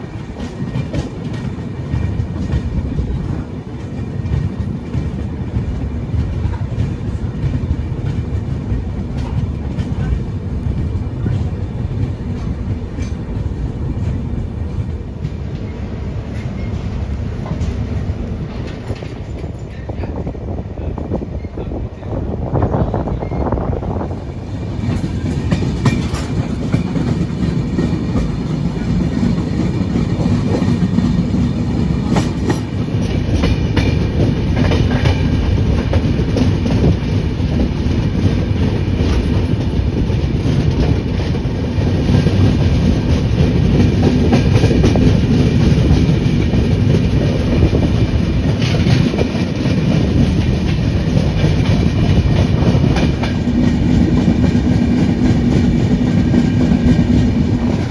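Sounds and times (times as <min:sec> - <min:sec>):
wheels clacking over rail joints: 0:00.0 - 0:20.2, 0:24.0 - 0:57.9
train rumbling: 0:00.0 - 0:57.9.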